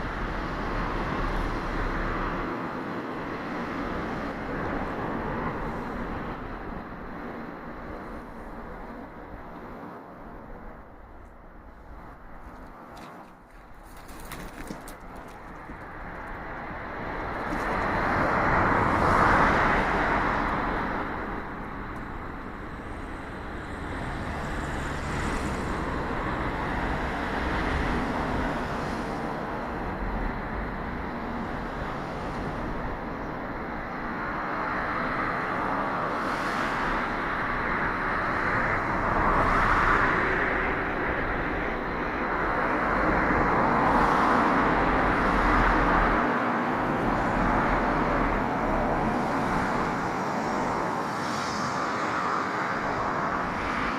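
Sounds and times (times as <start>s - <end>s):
cars passing: 0.0s - 53.9s.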